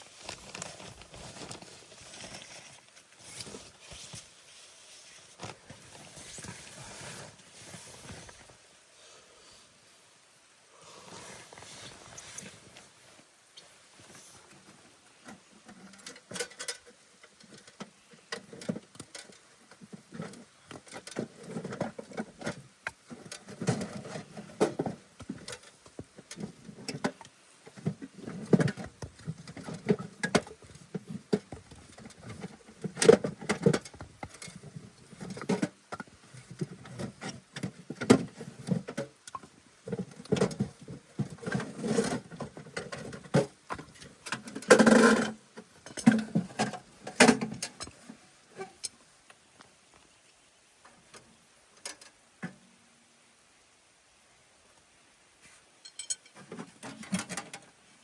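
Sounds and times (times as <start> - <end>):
rustling and shuffling: 0.0 - 8.9, 10.9 - 52.6.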